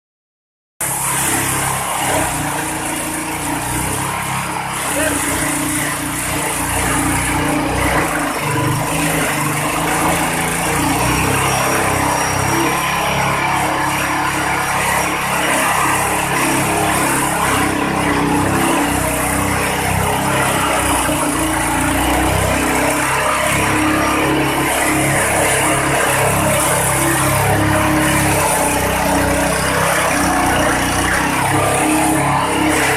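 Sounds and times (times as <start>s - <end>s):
shredder machine running: 0.8s - 32.9s.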